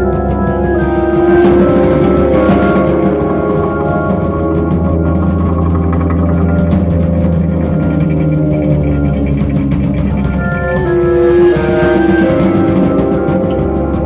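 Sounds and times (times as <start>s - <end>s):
drum kit with cymbals: 0.0s - 14.0s
higher melody: 0.0s - 14.0s.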